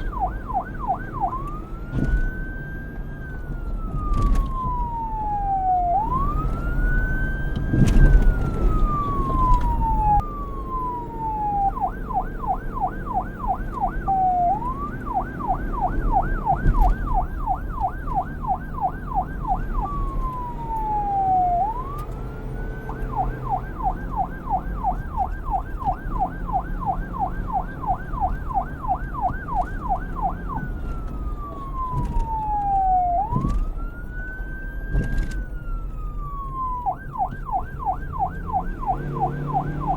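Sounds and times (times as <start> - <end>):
police siren wailing and yelping: 0.0 - 39.9.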